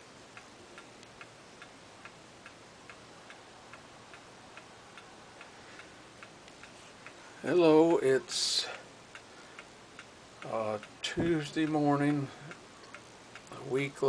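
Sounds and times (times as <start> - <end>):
clock ticking: 0.3 - 14.0.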